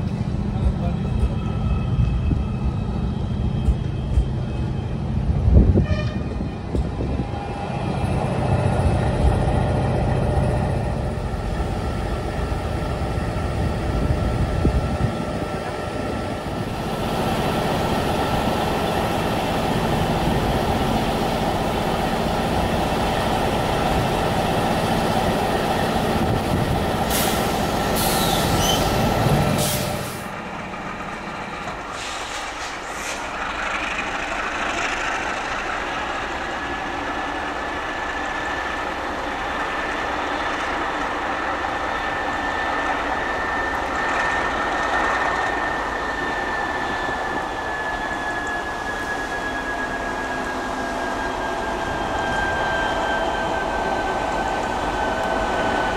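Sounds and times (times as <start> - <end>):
diesel locomotive engines running: 0.0 - 55.9.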